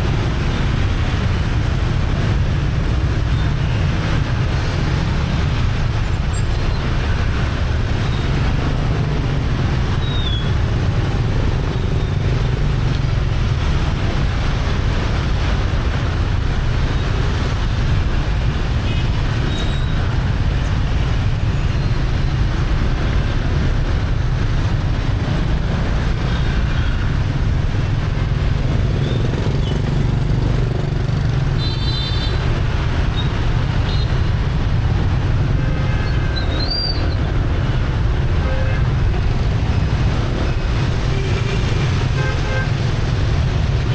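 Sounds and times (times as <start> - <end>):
surrounding traffic: 0.0 - 43.9.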